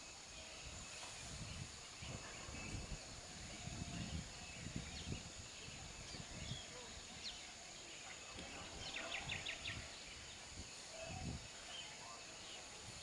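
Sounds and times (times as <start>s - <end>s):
high insect-like hiss: 0.0s - 13.0s.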